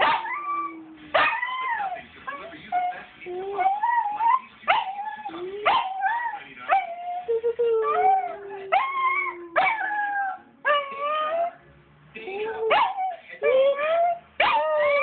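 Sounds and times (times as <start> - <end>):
dog whining and crying: 0.1 - 11.6, 12.3 - 15.0.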